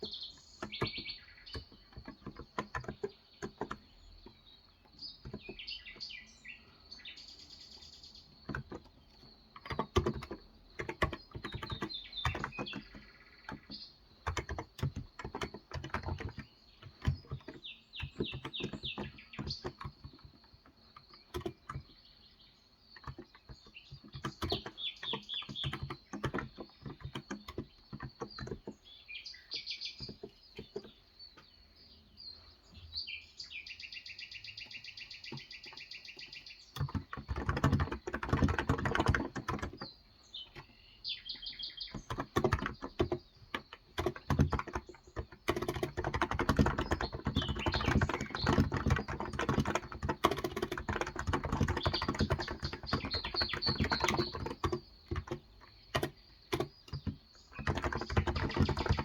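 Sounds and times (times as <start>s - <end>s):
typing on keyboard: 0.0s - 6.0s, 7.7s - 22.1s, 22.9s - 31.0s, 34.7s - 59.0s
birds chirping: 0.0s - 59.0s.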